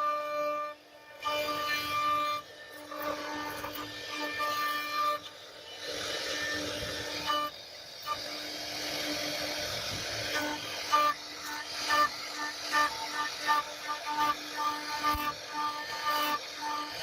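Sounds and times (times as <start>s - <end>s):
cnc router spindle whine: 0.0s - 17.0s
router bit cutting wood: 0.0s - 17.0s.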